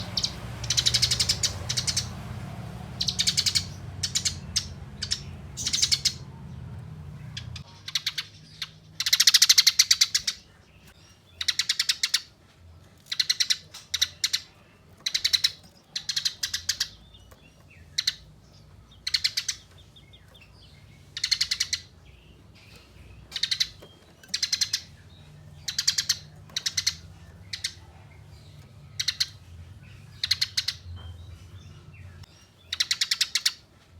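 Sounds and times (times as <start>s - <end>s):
sparrow rattling chatters: 0.0s - 10.4s, 11.4s - 12.3s, 13.1s - 18.3s, 18.9s - 21.9s, 22.6s - 29.4s, 30.1s - 30.9s, 32.7s - 33.6s
low background hum: 0.0s - 33.9s.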